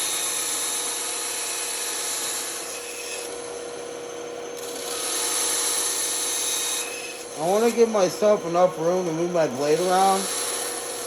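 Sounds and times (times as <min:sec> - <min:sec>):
band saw cutting wood: 0:00.0 - 0:11.0.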